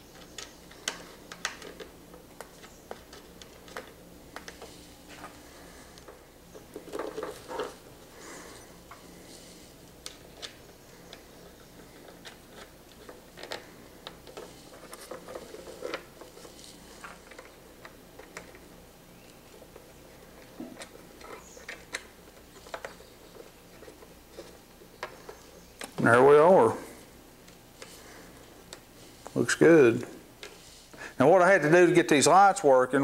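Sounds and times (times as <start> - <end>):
small clicks and rubbing: 0.0 - 26.1, 26.8 - 29.4, 30.4 - 31.0
faint steady hum: 0.0 - 33.0.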